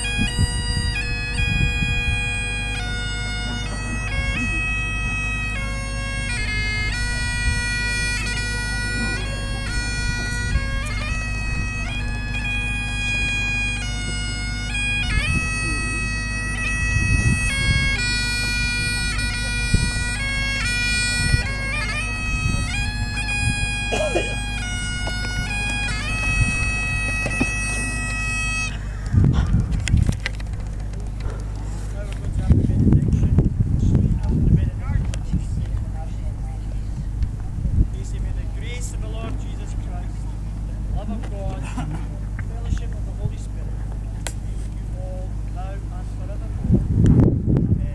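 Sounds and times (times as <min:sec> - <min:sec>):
bagpipe playing tune over drones: 0:00.0 - 0:30.5, 0:34.2 - 0:46.8.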